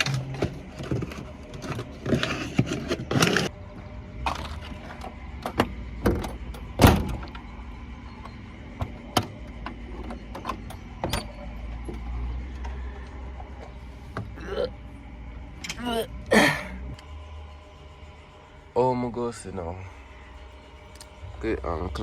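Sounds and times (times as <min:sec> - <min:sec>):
vehicle engine idling: 0:02.8 - 0:22.0.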